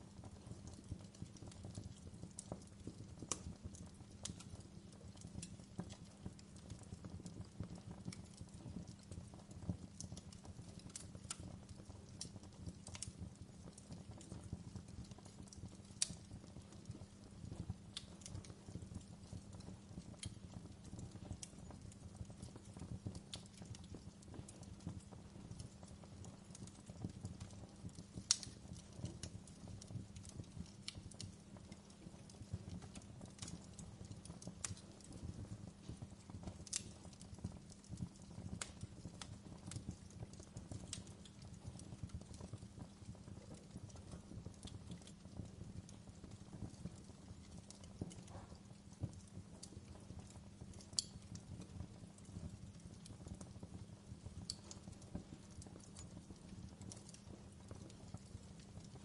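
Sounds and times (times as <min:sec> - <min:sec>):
wood fire crackling: 0:00.0 - 0:59.0
sharp pops from fire: 0:00.1 - 0:59.0.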